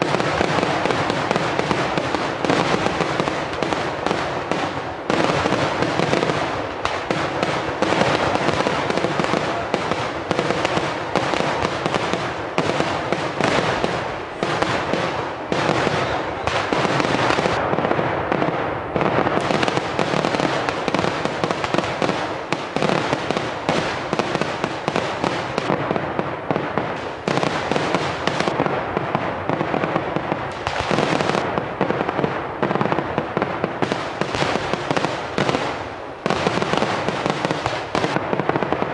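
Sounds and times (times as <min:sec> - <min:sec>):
firecrackers banging: 0:00.0 - 0:38.9.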